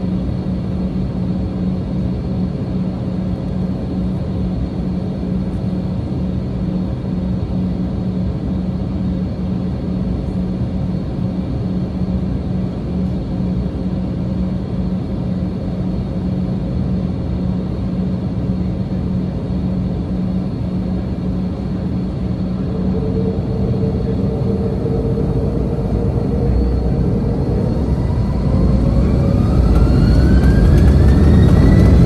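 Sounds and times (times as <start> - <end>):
constant low hum: 0.0 - 32.0
jet cabin rumble: 0.0 - 32.0.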